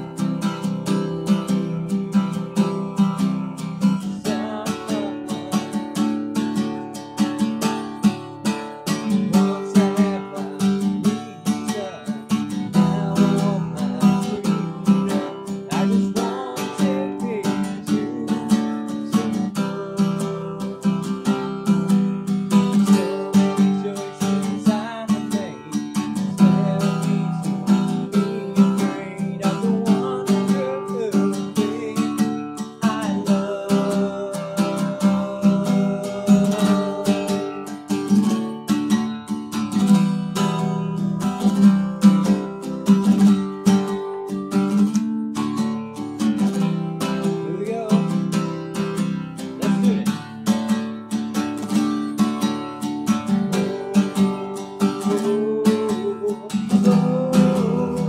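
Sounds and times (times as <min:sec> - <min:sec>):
man singing: 0:00.0 - 0:50.9, 0:51.6 - 0:58.0
acoustic guitar strumming: 0:00.0 - 0:58.0.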